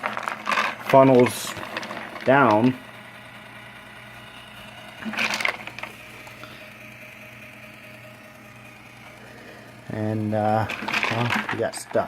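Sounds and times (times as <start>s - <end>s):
rattling burst: 0.0s - 12.0s
small motor humming: 0.0s - 12.0s.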